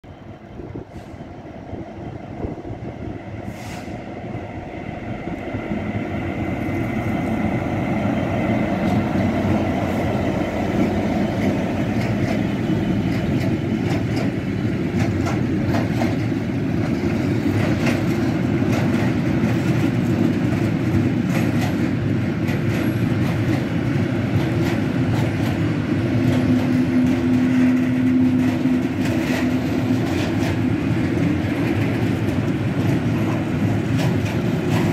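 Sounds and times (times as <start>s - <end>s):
diesel locomotive engine passing: 0.0s - 34.9s.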